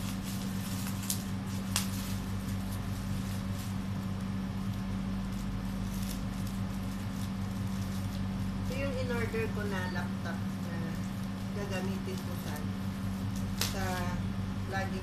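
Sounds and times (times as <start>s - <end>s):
bubble wrap rustling: 0.0s - 15.0s
steady low hum: 0.0s - 15.0s.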